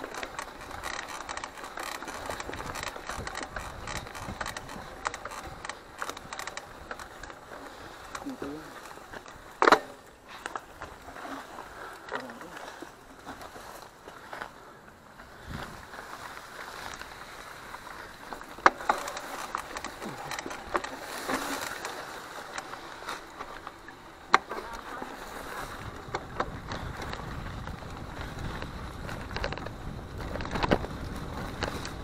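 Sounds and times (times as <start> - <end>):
bike clicks: 0.0 - 32.0
bike tyres rolling and rattling: 0.0 - 32.0.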